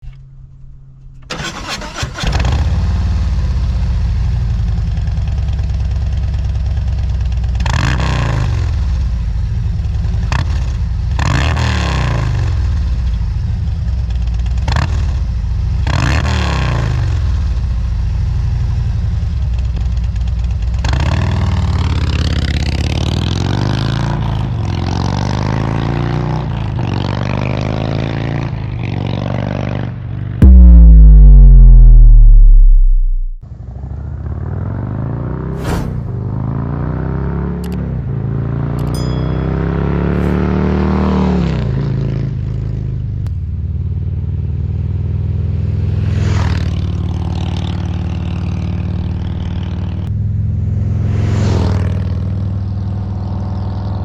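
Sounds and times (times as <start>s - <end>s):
motorcycle engine idling and revving: 0.9s - 54.0s.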